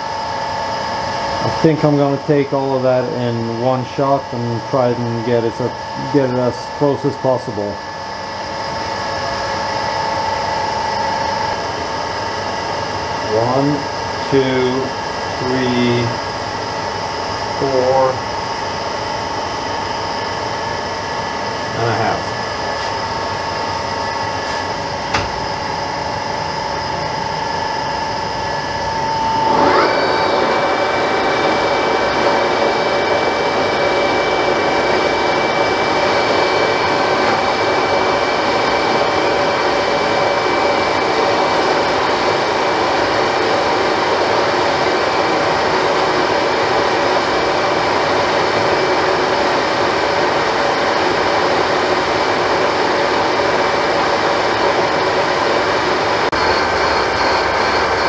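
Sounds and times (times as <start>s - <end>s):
metal lathe gear whine: 0.0s - 58.0s.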